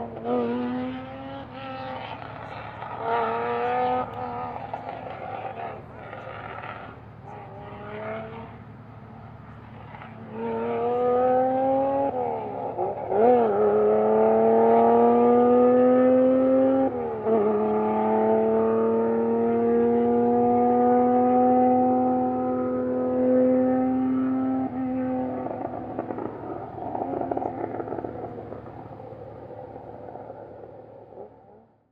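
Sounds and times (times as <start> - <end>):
car engine accelerating: 0.0 - 31.9.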